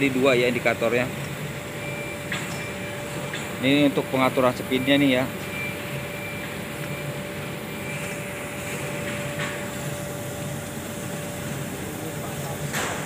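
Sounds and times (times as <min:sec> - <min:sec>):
laser cutting machine humming: 0:00.0 - 0:13.0.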